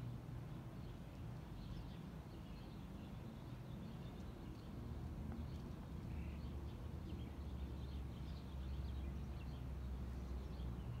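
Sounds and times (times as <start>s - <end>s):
small birds chirping: 0.5s - 11.0s.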